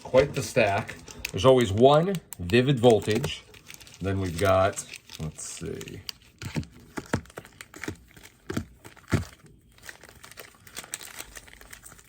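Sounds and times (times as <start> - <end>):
foil packs crinkling: 0.0 - 12.0.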